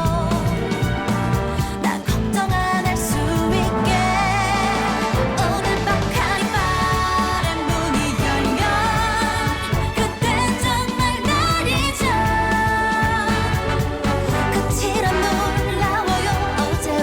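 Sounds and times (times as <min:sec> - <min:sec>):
pop backing track with beat: 0:00.0 - 0:17.0.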